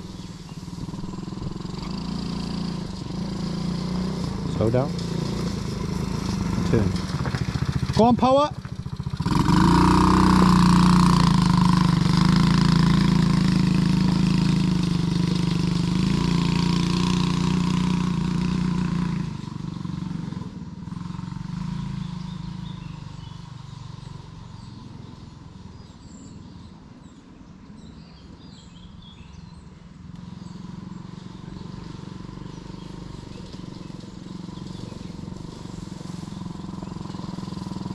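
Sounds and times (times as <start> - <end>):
quad bike engine running: 0.0 - 27.2, 28.4 - 37.9.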